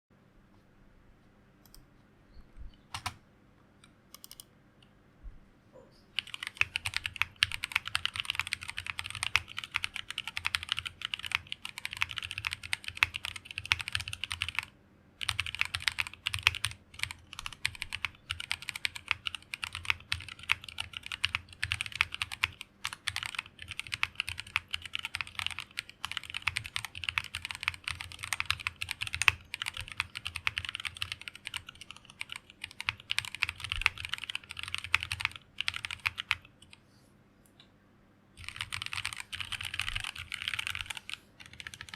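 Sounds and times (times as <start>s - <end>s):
typing on mechanical keyboard: 2.9s - 3.2s, 4.2s - 4.4s, 6.2s - 36.7s, 38.4s - 41.9s.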